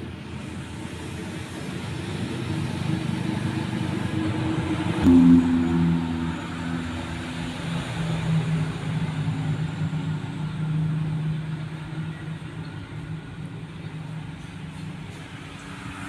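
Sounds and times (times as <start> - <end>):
vehicle engine droning: 1.4 - 16.0.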